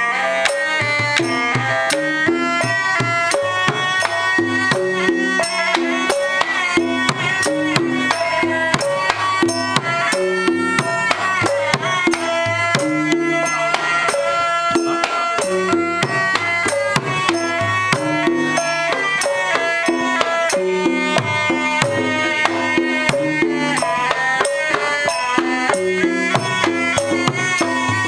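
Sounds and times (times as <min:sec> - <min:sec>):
hand-played barrel drums: 0:00.0 - 0:28.0
stick-beaten drum: 0:00.0 - 0:28.0
wavering sliding melody: 0:00.0 - 0:28.0.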